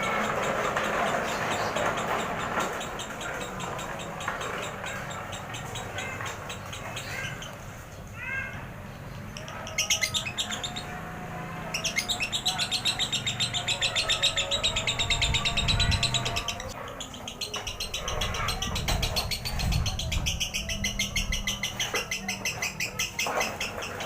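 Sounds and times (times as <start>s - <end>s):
lovebird chirping and trilling: 0.0s - 7.6s, 9.3s - 11.0s, 11.8s - 24.0s.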